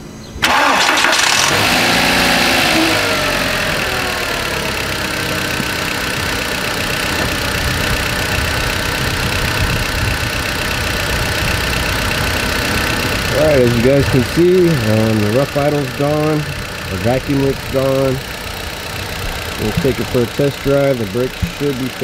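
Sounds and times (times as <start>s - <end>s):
car engine starting and idling: 0.4s - 22.0s.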